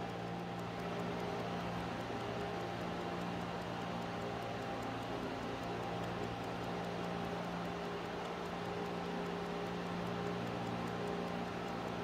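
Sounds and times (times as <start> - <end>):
clock ticking rapidly: 0.0 - 12.0
steady low hum: 0.0 - 12.0.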